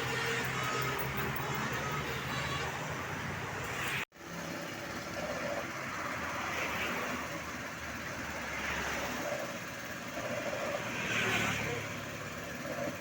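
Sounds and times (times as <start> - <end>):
passing traffic: 0.0 - 13.0.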